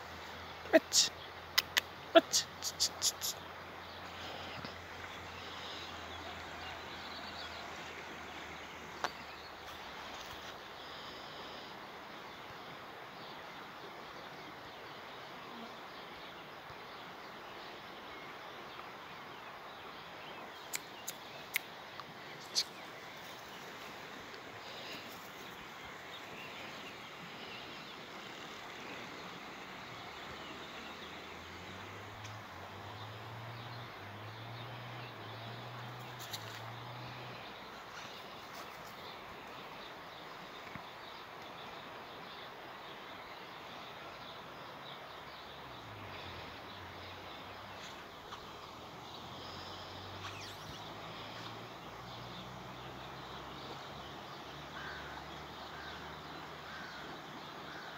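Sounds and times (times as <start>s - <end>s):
steady outdoor hiss: 0.0s - 57.9s.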